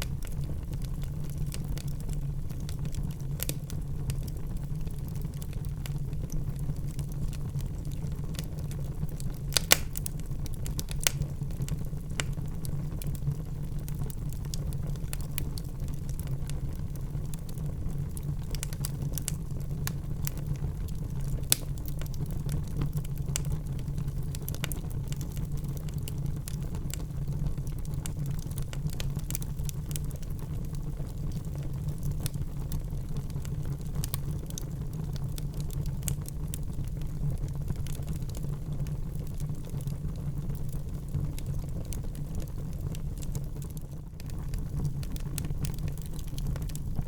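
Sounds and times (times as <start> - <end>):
small fire crackles: 0.0 - 47.0
wood fire rumbling: 0.0 - 47.0.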